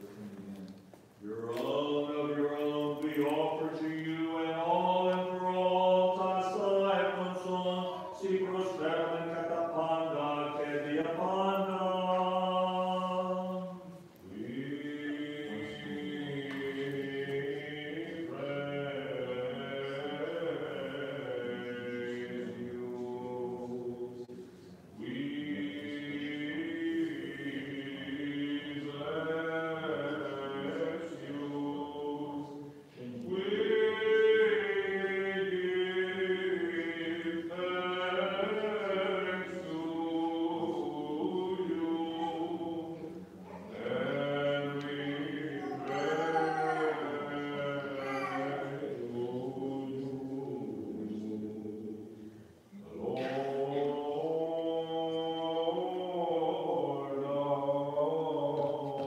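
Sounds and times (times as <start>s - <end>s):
liturgical chant: 0.0s - 59.0s.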